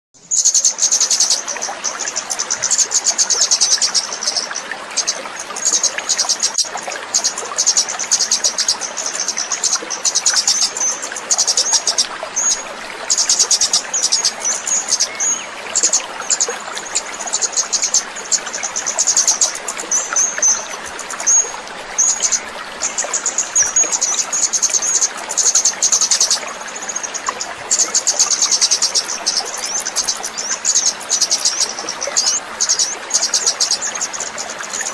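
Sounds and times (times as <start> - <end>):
songbird buzzy trills and chirps: 0.2 - 34.9.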